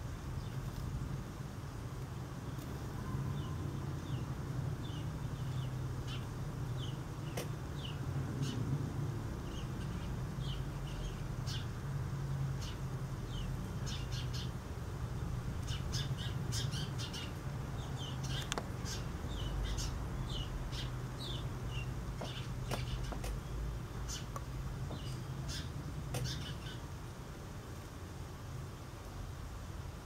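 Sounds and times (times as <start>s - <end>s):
small birds chirping: 0.0s - 27.3s.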